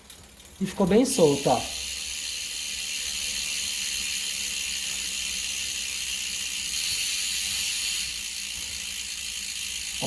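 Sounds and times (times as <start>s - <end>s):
bicycle wheel hub whirring: 0.0s - 10.0s.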